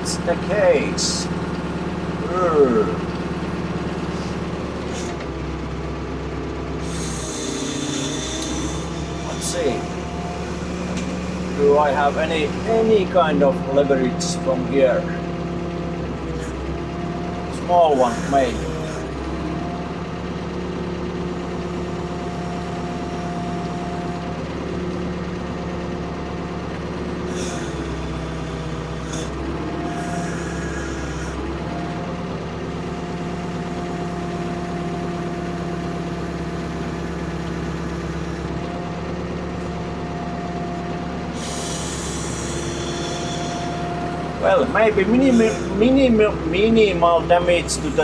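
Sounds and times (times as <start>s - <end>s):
excavator engine running: 0.0s - 48.0s.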